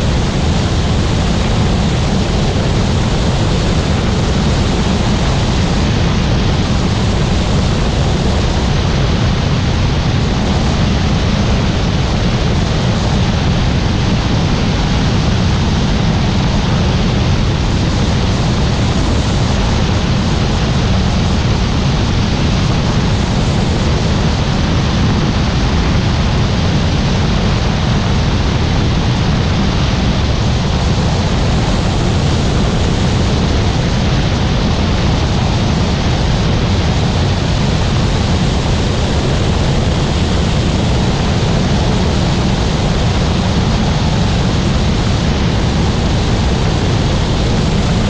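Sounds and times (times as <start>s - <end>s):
helicopter roar: 0.0s - 48.0s.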